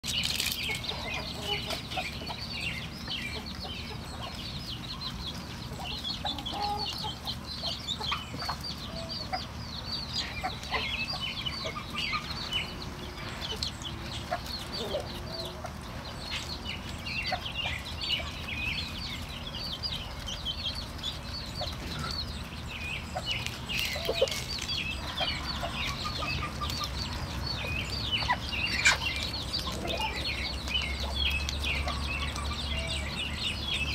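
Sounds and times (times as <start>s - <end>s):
ducklings peeping: 0.0s - 33.9s.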